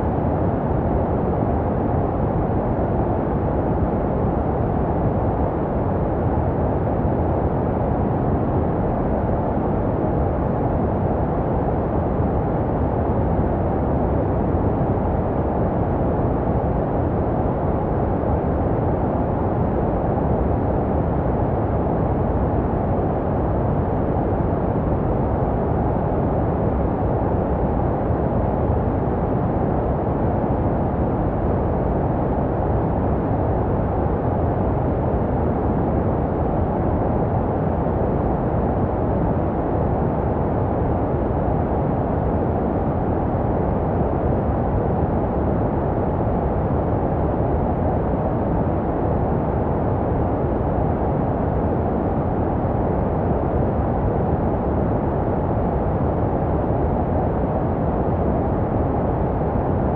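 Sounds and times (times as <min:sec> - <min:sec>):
muffled white noise hiss: 0:00.0 - 0:59.9.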